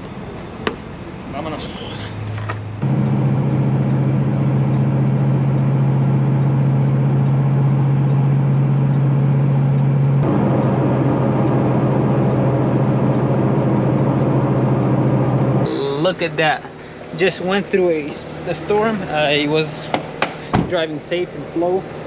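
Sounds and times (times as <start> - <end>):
truck diesel engine running: 2.7 - 22.0.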